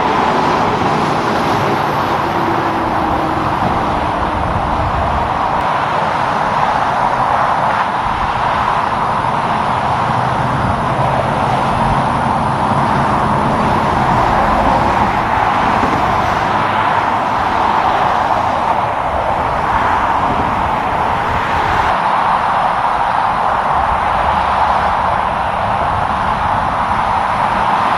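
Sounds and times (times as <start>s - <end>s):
road traffic passing: 0.0s - 27.9s.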